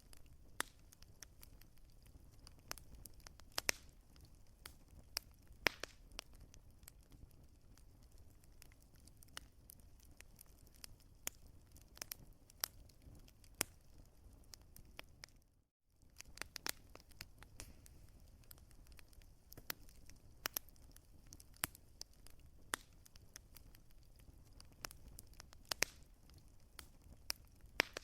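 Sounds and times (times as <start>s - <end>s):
fire low rumble: 0.0s - 15.4s, 16.0s - 28.0s
wood fire crackling and popping: 0.0s - 28.0s.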